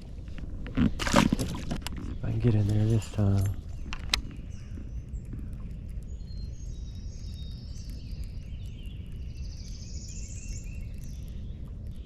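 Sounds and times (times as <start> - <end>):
low outdoor rumble: 0.0 - 12.0
birds singing with trills: 1.8 - 12.0.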